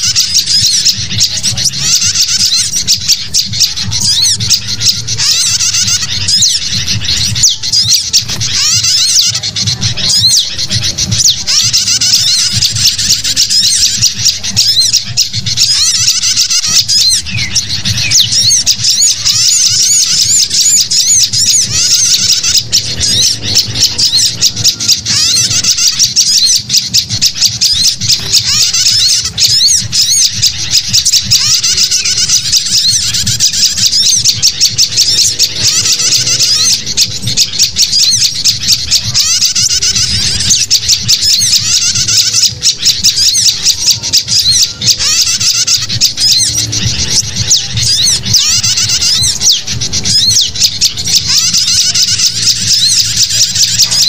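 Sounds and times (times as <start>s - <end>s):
bulbuls alarm calling: 0.0s - 54.0s
small birds chirping: 0.0s - 54.0s.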